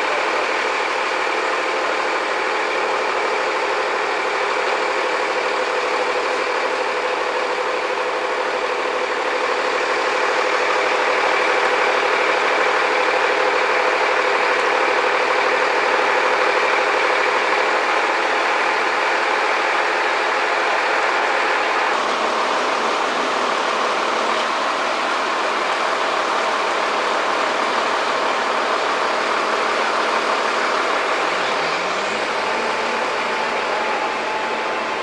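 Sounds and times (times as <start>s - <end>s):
heavy machinery engine running: 0.0s - 35.0s.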